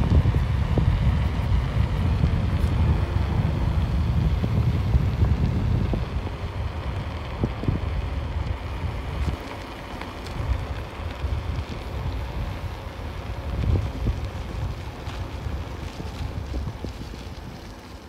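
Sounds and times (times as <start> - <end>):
vehicle road noise: 0.0 - 18.0
wind buffeting microphone: 0.0 - 18.0.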